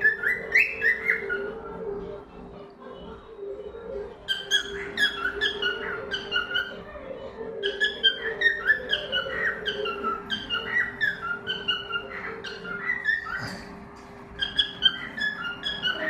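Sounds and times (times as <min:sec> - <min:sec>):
cockatiel chirping: 0:00.0 - 0:02.2, 0:03.7 - 0:07.0, 0:07.6 - 0:16.0.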